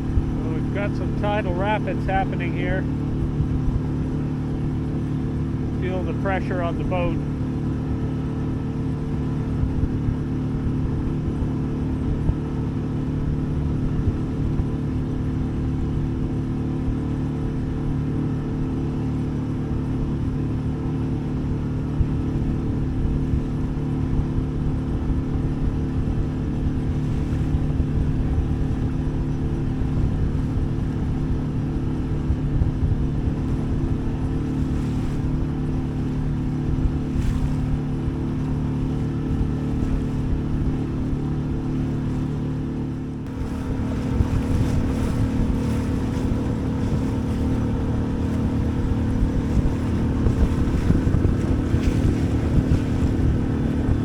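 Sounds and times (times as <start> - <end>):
boat engine running: 0.0 - 54.0
water noise: 0.0 - 54.0
wind buffeting microphone: 0.0 - 54.0.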